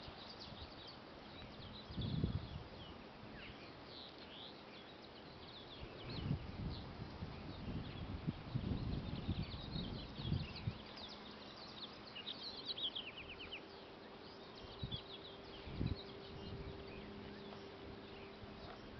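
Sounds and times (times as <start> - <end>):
birds chirping and twittering: 0.0 - 18.9
faint steady hum: 0.0 - 18.9.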